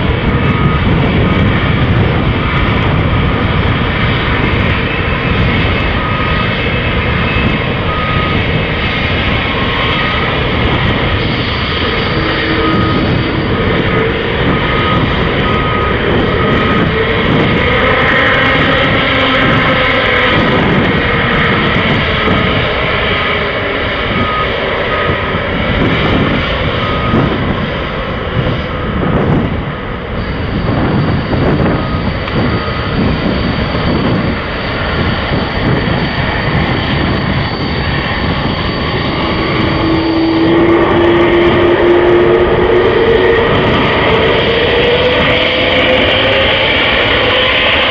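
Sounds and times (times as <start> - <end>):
jet engines running: 0.0 - 47.9
jet engines spooling up whine: 0.0 - 47.9.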